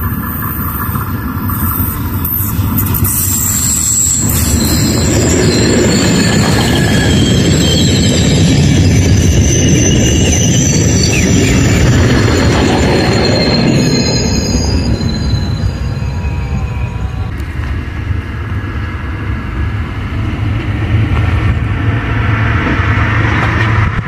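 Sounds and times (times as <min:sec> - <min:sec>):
high wheel squeal: 0:00.0 - 0:24.0
railcar engine and wheels rumbling: 0:00.0 - 0:24.0.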